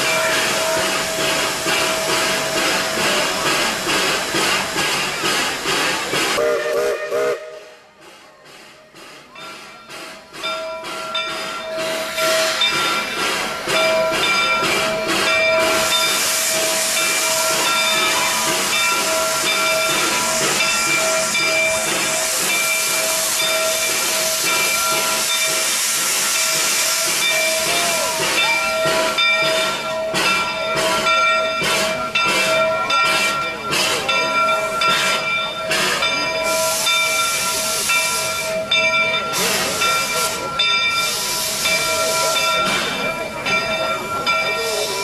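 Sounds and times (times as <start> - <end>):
steam locomotive hissing: 0.0 - 45.0.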